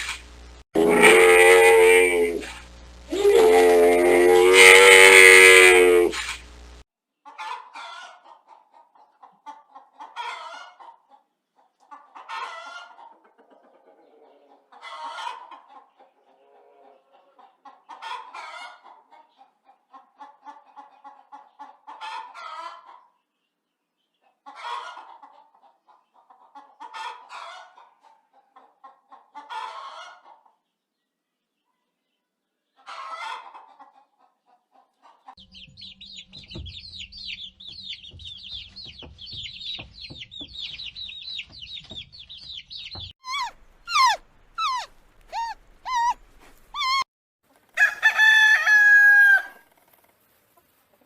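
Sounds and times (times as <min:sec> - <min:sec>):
chickens clucking: 0:00.0 - 0:06.6, 0:07.2 - 0:23.3, 0:24.1 - 0:30.8, 0:32.7 - 0:47.7, 0:49.7 - 0:51.0.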